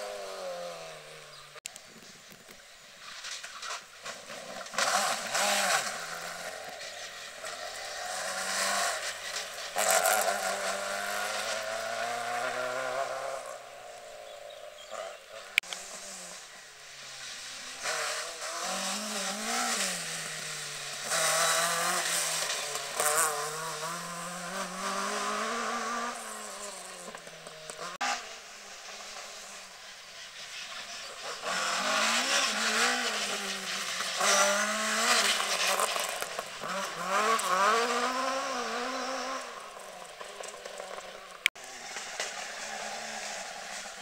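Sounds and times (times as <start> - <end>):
rally cars revving past: 0.0 - 1.5, 3.0 - 44.0.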